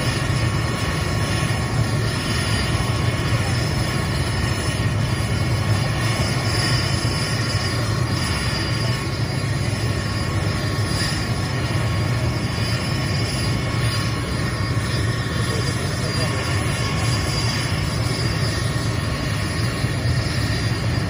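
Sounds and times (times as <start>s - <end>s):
helicopter engine whine: 0.0s - 21.0s
pulsing rotor beat: 0.0s - 21.0s.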